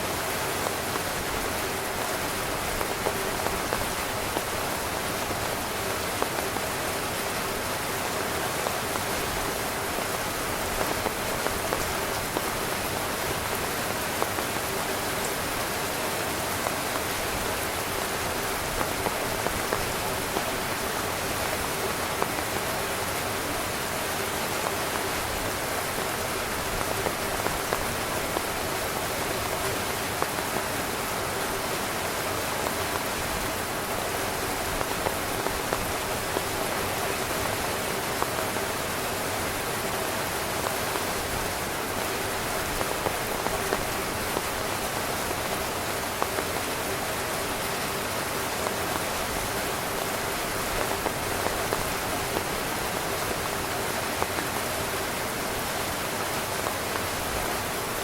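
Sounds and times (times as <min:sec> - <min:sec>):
rain falling on a tent: 0:00.0 - 0:58.0.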